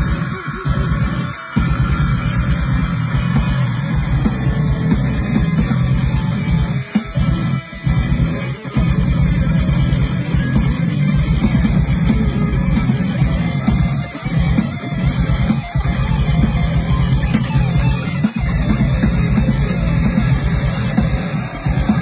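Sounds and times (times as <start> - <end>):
heavy metal band playing: 0.0 - 22.0.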